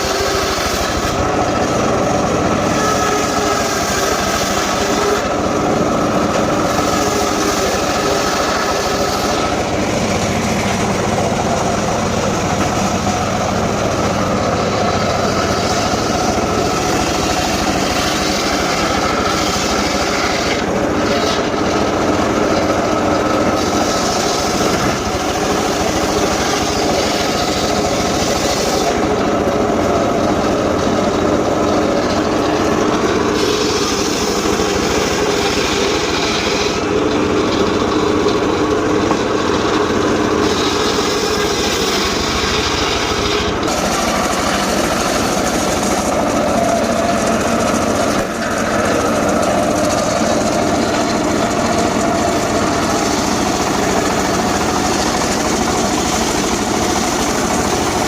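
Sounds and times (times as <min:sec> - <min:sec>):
engine-driven saw running: 0:00.0 - 0:58.0
harsh high cutting noise: 0:00.0 - 0:58.0.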